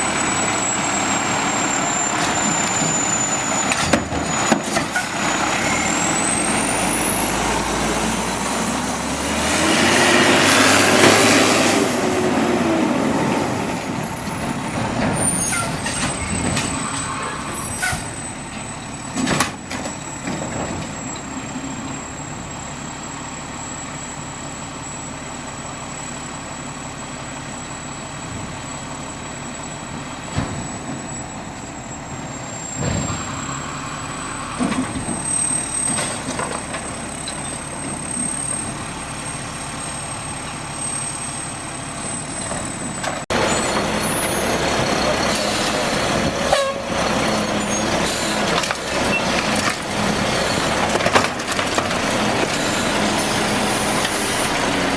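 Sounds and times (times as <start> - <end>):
garbage truck running: 0.0 - 54.9.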